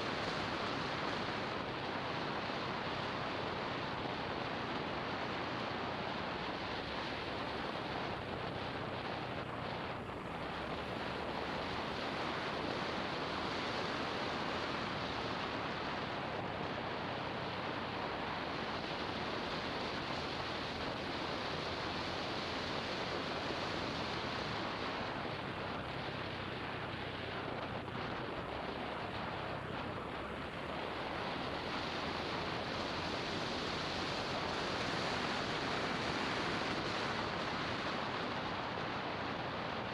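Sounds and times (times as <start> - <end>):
faint motorbike engine hum: 0.0 - 39.9.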